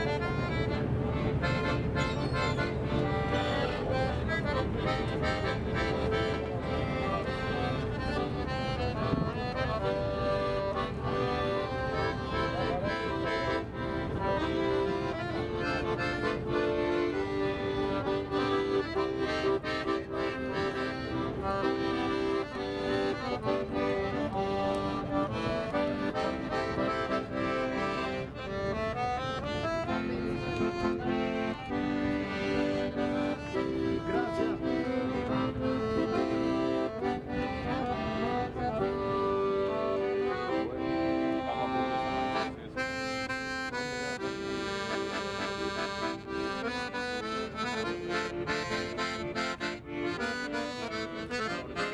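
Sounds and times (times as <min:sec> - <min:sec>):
accordion playing a melody: 0:00.0 - 0:51.9.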